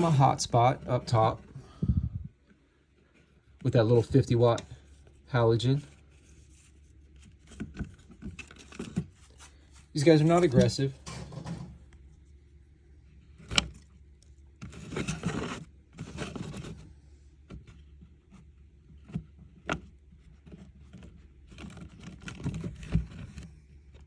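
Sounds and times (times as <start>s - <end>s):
rustling and scraping: 0.0s - 24.0s.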